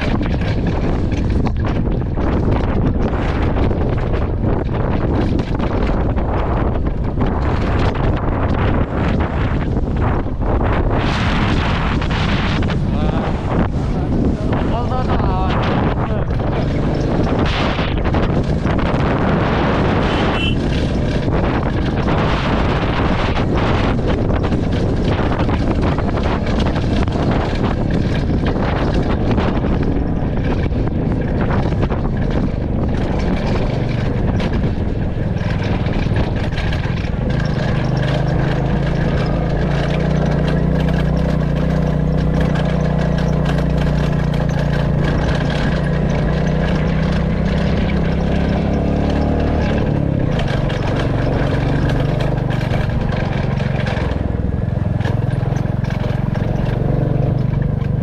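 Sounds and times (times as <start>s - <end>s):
motorcycle engine running: 0.0s - 58.0s
road noise: 0.0s - 58.0s
wind noise on microphone: 0.0s - 58.0s.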